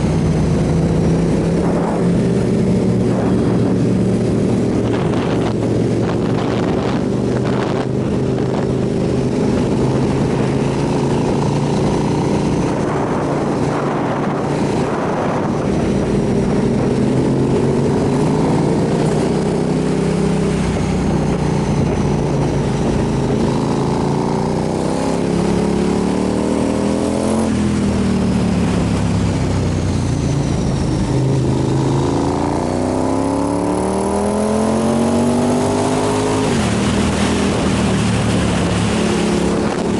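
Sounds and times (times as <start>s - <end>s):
motorcycle engine revving: 0.0s - 39.9s
steady rush of noise: 0.0s - 39.9s.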